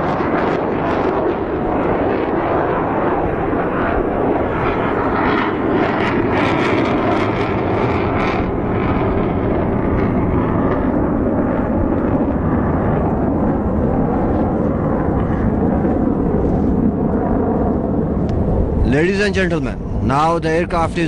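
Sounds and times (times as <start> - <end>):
jet engine roaring: 0.0 - 21.0.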